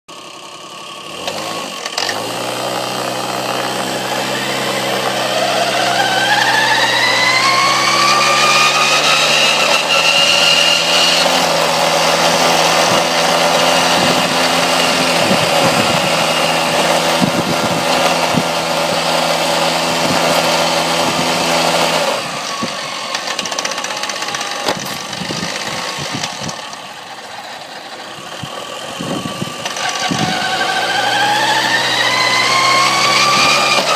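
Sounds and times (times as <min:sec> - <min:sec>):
moped engine running: 0:00.1 - 0:33.9
rising whine: 0:01.2 - 0:33.9.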